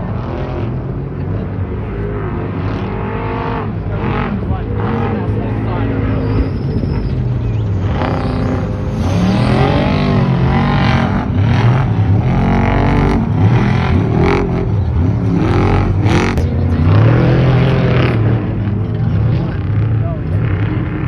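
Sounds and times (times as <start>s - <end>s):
race truck engines revving: 0.0s - 21.0s.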